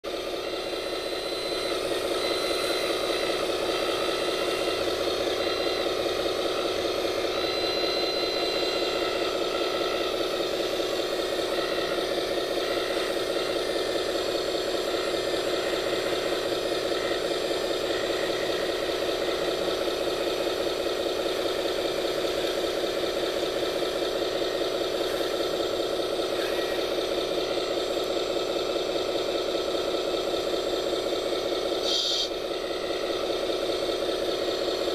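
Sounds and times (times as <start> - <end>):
toy construction machine drone: 0.1 - 34.9.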